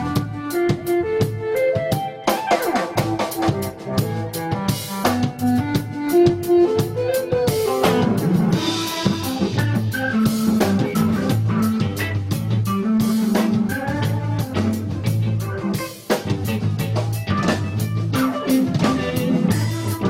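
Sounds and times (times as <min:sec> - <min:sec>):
music with drum beat and melody: 0:00.0 - 0:20.0.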